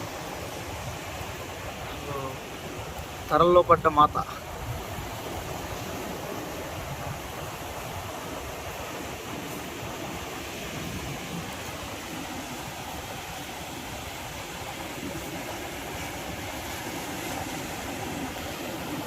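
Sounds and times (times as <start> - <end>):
sea surf breaking: 0.0 - 19.0.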